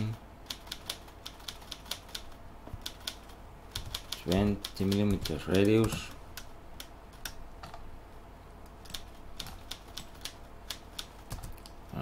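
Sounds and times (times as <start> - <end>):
faint low hum: 0.0 - 12.0
keyboard and mouse clicks: 0.5 - 7.8, 8.6 - 11.8.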